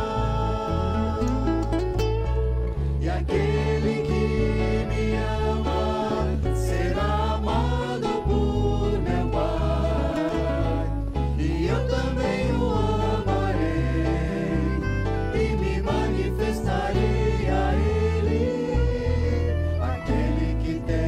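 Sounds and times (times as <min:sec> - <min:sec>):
voices singing worship song: 0:00.0 - 0:02.0, 0:02.8 - 0:21.0
instrumental accompaniment: 0:00.0 - 0:21.0.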